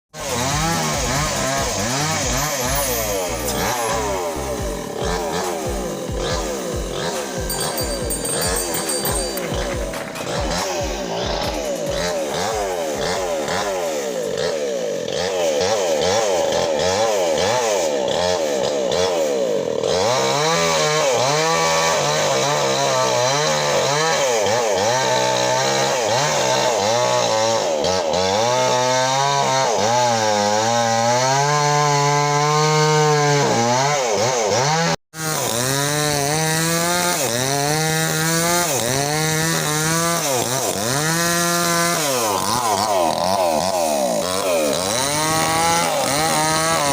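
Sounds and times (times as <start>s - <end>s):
chainsaw cutting wood: 0.1s - 46.9s.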